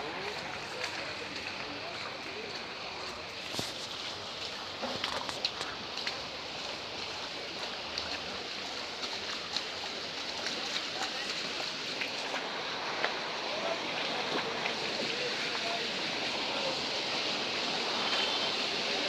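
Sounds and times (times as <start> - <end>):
flood water rushing: 0.0 - 19.0.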